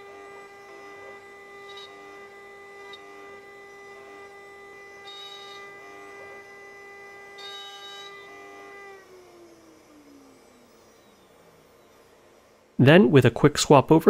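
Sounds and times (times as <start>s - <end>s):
router spindle high hum: 0.0s - 14.0s.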